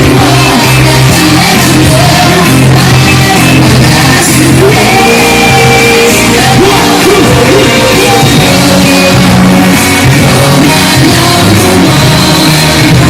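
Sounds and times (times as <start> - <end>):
distorted loud pop music with vocals: 0.0 - 13.0.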